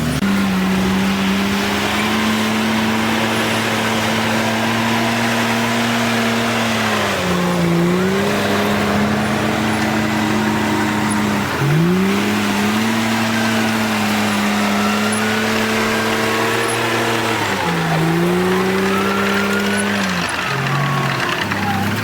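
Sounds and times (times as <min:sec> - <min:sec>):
bulldozer diesel engine revving: 0:00.0 - 0:22.0.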